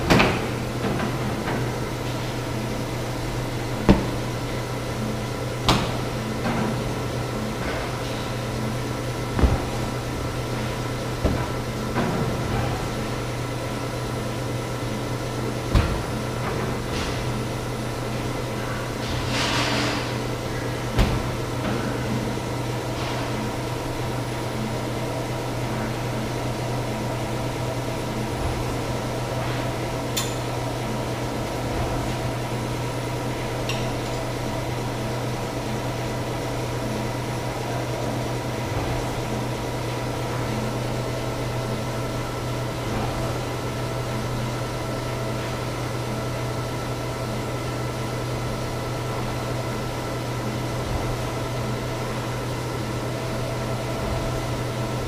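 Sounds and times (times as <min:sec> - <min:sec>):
industrial machinery humming: 0:00.0 - 0:55.0.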